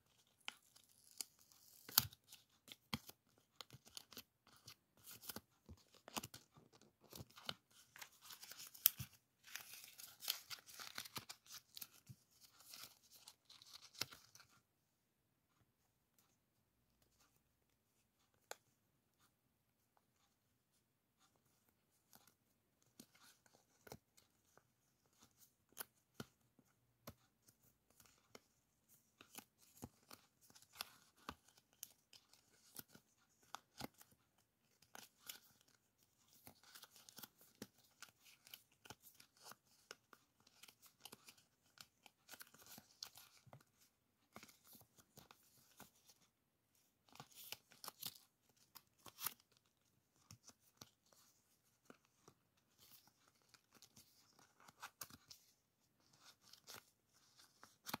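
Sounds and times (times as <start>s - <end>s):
paper stickers rustling: 0.0s - 14.6s, 22.9s - 58.0s.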